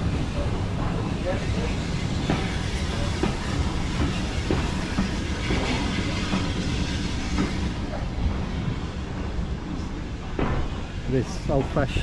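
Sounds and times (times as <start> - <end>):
train low mechanical noise: 0.0 - 12.0.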